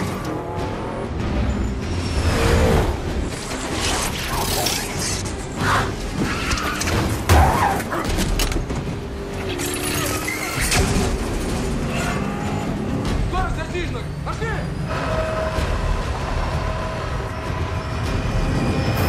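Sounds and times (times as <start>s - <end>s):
film score music: 0.0s - 19.0s
vehicle engine and tyres: 0.0s - 19.0s.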